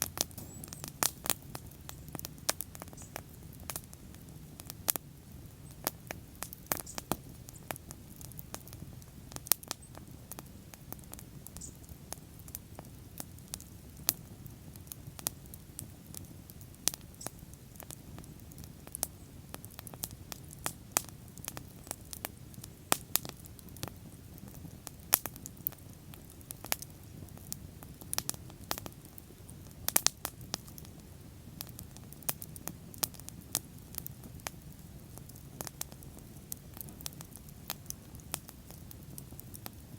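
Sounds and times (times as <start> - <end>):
burning wood popping and snapping: 0.0 - 39.9
low rumble of flames: 0.0 - 39.9.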